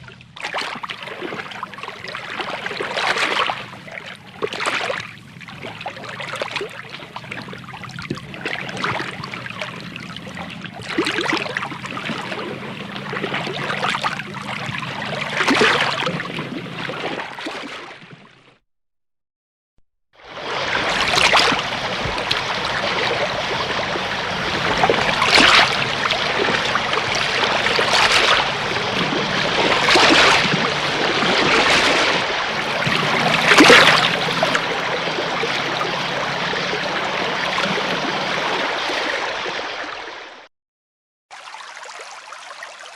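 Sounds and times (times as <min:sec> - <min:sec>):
running splashing water: 0:00.0 - 0:17.9, 0:20.3 - 0:40.2.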